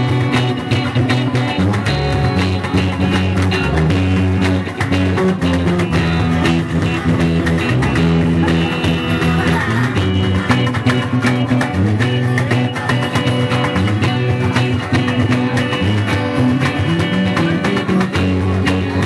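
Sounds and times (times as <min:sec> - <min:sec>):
bass guitar: 0:00.0 - 0:19.0
guitar playing: 0:00.0 - 0:19.0
steady drum beat: 0:00.0 - 0:19.0.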